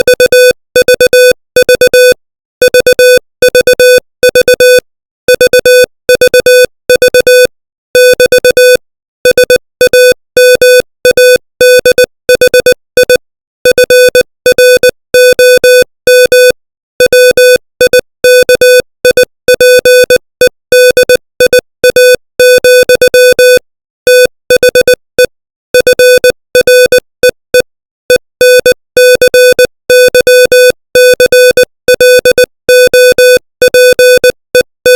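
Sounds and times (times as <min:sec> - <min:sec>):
morse code beeps: 0:00.0 - 0:34.9.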